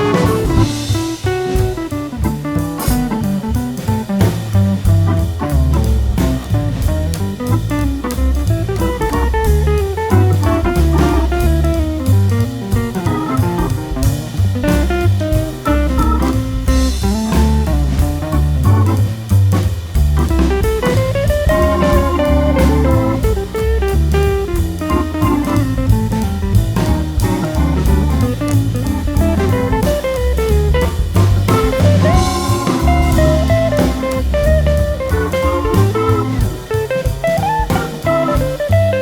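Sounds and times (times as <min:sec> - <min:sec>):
bluesy guitar melody: 0:00.0 - 0:39.0
drum kit beat: 0:00.0 - 0:39.0.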